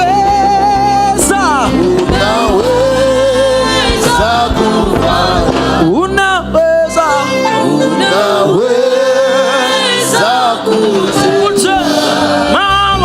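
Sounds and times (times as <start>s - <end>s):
keyboard and band accompaniment: 0.0s - 13.0s
person singing gospel: 0.0s - 13.0s.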